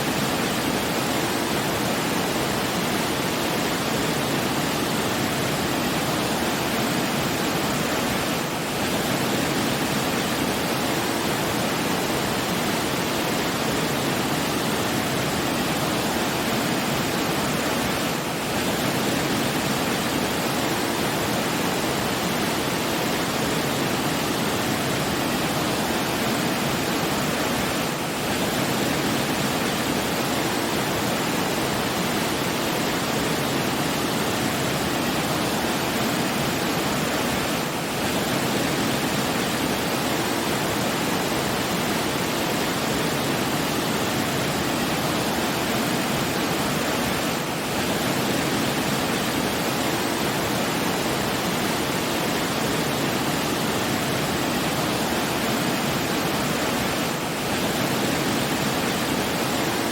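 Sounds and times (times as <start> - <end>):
rushing flowing water: 0.0 - 59.9.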